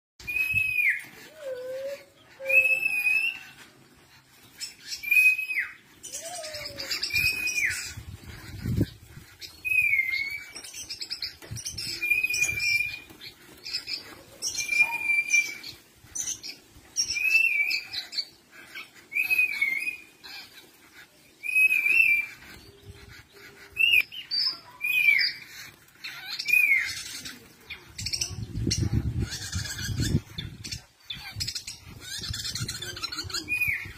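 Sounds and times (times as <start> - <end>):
bird whistling song: 0.2 - 3.7, 4.6 - 20.6, 21.3 - 27.4, 28.0 - 33.9
scratchy bird chatter: 0.2 - 33.9.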